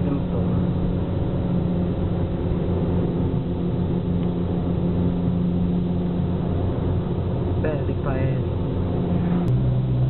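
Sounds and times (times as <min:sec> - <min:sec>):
car engine and tyre noise: 0:00.0 - 0:10.0
constant low hum: 0:00.0 - 0:10.0.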